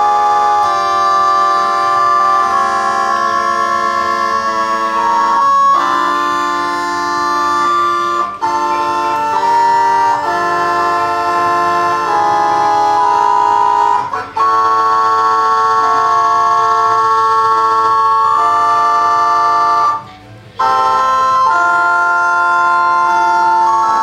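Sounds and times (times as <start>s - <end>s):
electronic organ playing chords: 0.0s - 24.0s.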